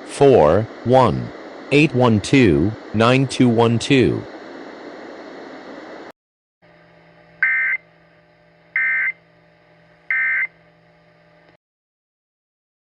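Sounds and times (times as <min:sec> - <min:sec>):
faint hum: 0:00.0 - 0:11.6.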